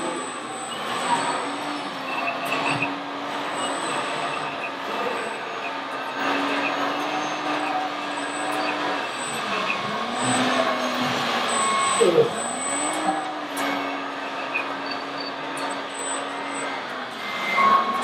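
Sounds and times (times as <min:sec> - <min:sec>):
model excavator motor drone: 0:00.0 - 0:18.0.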